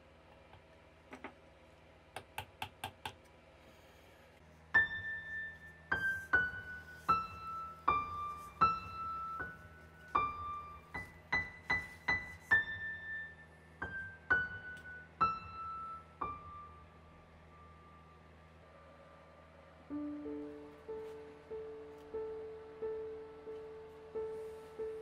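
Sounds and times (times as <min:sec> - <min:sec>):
slow piano melody: 0:04.7 - 0:25.0.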